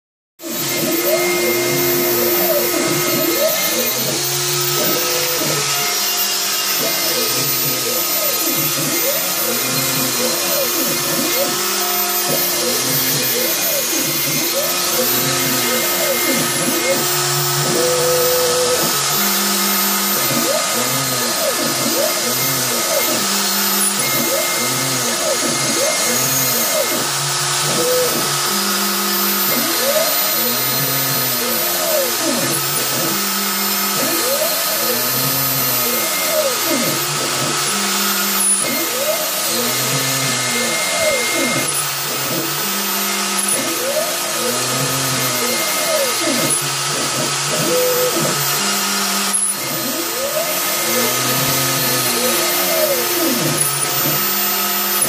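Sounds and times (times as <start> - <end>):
router spindle hissing: 0.4 - 55.0
stepper motors whining: 0.4 - 55.0.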